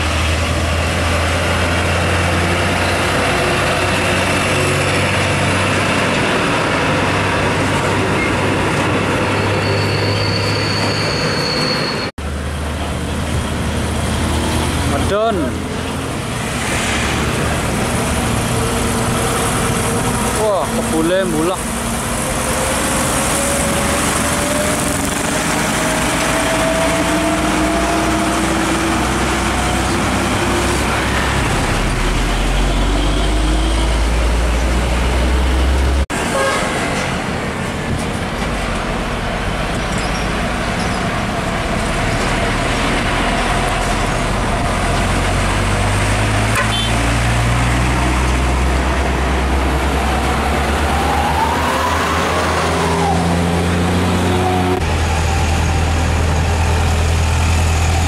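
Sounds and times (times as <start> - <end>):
diesel truck engine whining: 0.0 - 58.0
diesel truck rumbling past: 0.0 - 58.0
road traffic: 0.0 - 58.0.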